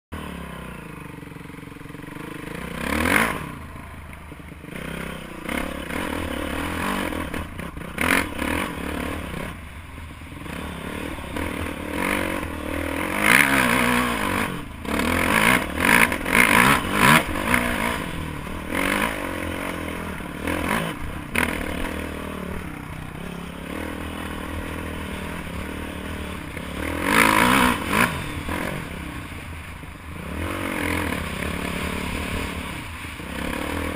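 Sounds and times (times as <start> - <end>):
dirt bike engine revving: 0.2 - 33.9.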